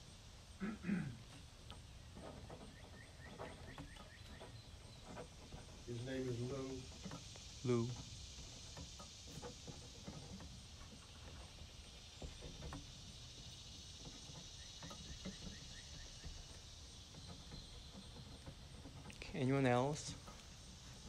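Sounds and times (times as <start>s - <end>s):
high insect drone: 2.2s - 21.0s.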